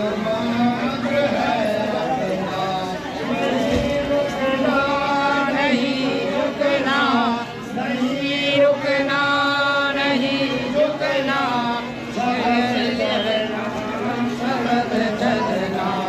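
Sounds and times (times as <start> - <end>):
voices chanting: 0.0 - 16.0.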